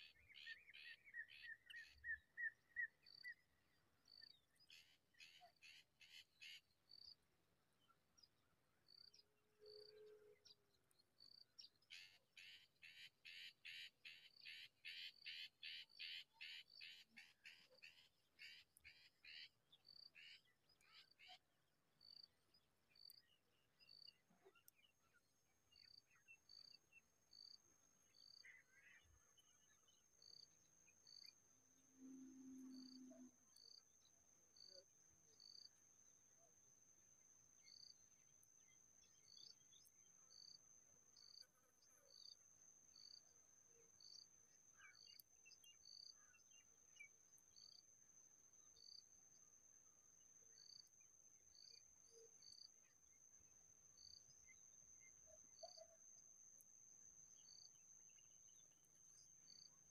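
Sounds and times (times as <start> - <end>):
insect chirps: 8.1 - 59.9.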